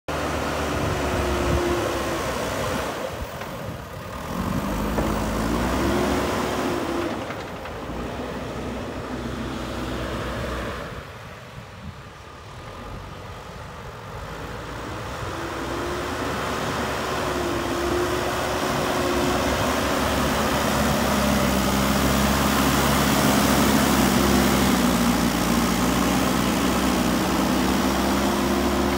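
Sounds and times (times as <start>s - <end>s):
diesel engine running under load: 0.1s - 11.5s, 12.4s - 28.9s.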